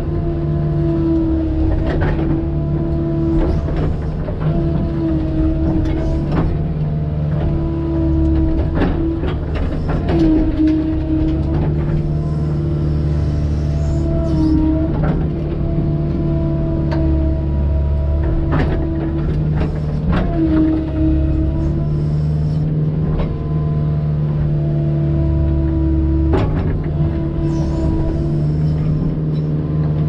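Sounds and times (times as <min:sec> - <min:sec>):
excavator engine and hydraulic whine: 0:00.0 - 0:30.0.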